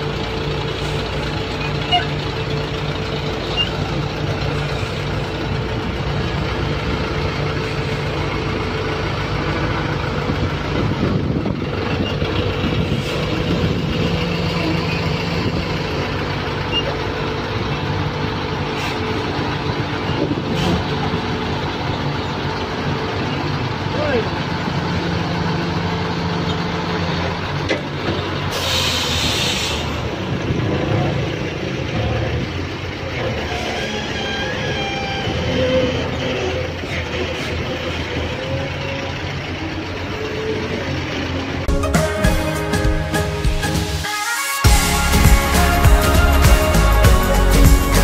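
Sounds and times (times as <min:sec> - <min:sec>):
diesel engine running: 0:00.0 - 0:44.1, 0:44.7 - 0:48.0.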